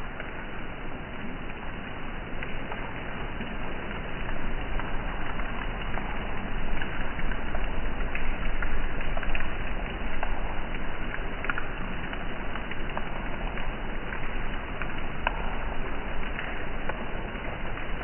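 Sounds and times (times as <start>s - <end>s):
low steady rumble: 0.0s - 18.0s
single raindrop ticks: 0.0s - 18.0s
steady rain hiss: 0.0s - 18.0s.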